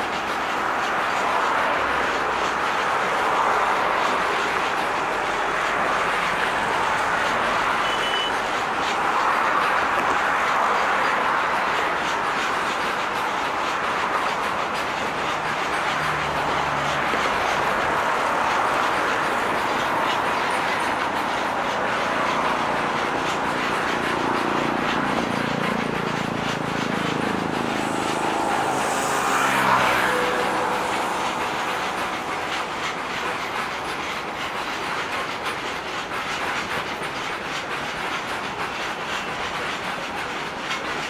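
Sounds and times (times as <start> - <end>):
train wheels clicking on rails: 0.0 - 41.0.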